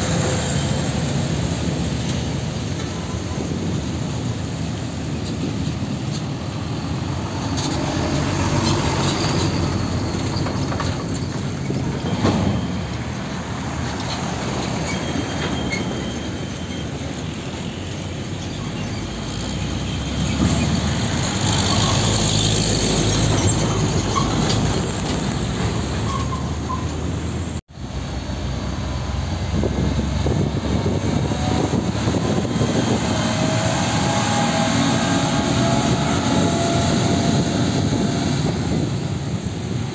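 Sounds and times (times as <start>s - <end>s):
heavy diesel trucks running: 0.0s - 39.9s
passing traffic rumble and tyre noise: 0.0s - 39.9s.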